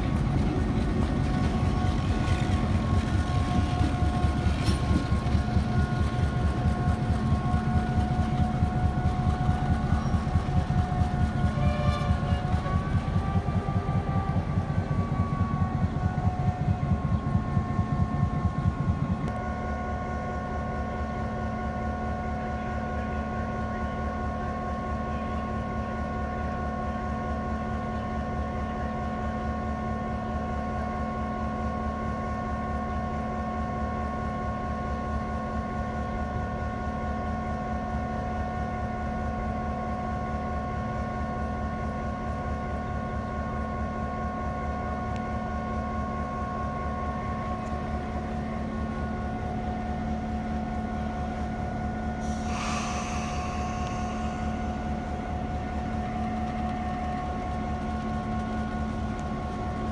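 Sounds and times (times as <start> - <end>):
diesel locomotive idling: 0.0 - 59.9.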